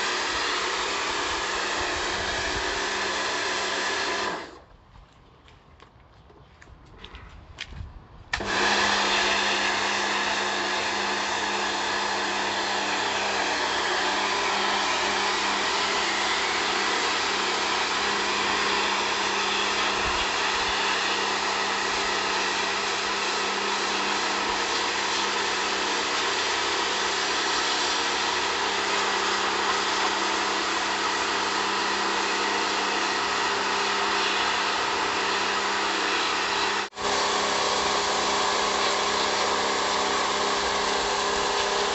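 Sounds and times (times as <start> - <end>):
pressure washer humming: 0.0 - 4.6, 8.3 - 41.9
water jetting onto brick paving: 0.0 - 4.6, 8.3 - 41.9.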